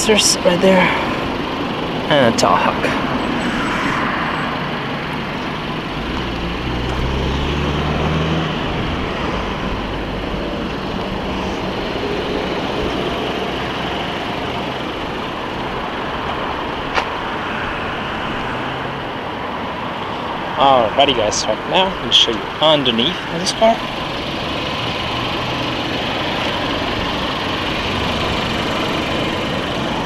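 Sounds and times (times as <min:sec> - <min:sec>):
low engine hum: 0:00.0 - 0:30.0
traffic noise: 0:00.0 - 0:30.0.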